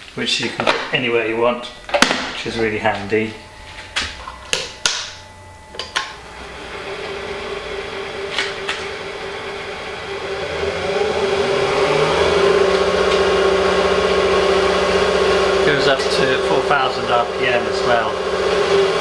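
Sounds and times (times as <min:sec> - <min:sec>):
lathe motor humming: 0:01.6 - 0:19.0.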